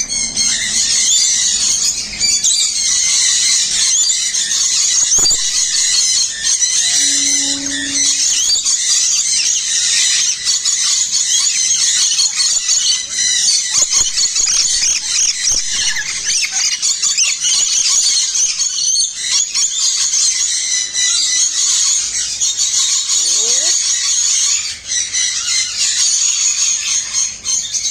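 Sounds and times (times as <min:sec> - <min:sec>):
birds chattering and chirping: 0:00.0 - 0:27.9.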